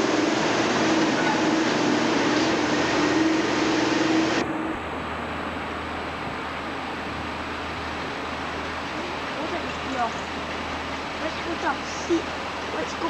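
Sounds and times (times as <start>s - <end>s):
low hum: 0.0s - 13.0s
train rushing with held tone: 0.0s - 13.0s.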